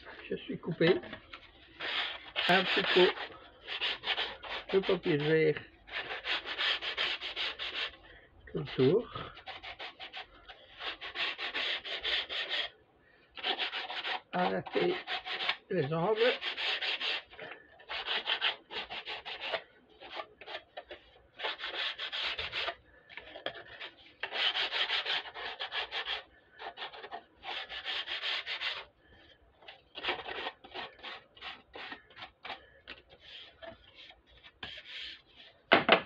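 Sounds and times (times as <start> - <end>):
sandpaper scratching on wood: 1.8 - 8.0, 8.6 - 12.7, 13.4 - 20.6, 21.4 - 22.8, 24.2 - 28.9, 30.0 - 35.5.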